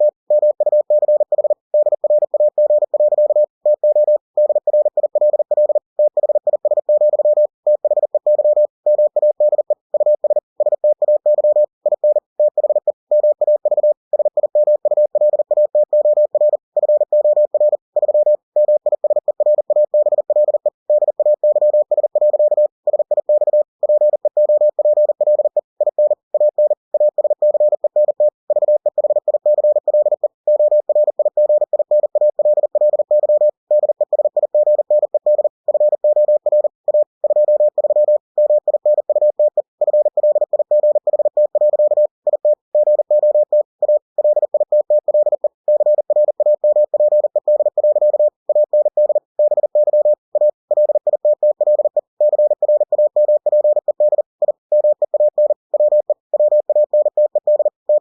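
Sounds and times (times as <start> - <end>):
morse code beeps: 0.0 - 58.0.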